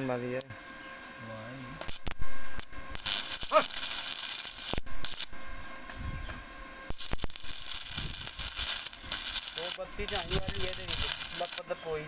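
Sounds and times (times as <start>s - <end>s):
arc welding crackling and hissing: 0.0s - 12.0s.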